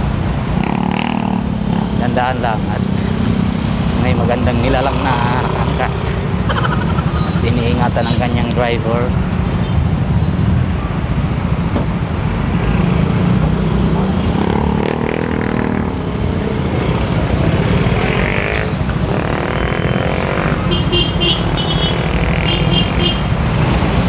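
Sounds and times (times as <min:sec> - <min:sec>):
motorcycle and car engines passing: 0:00.0 - 0:24.0.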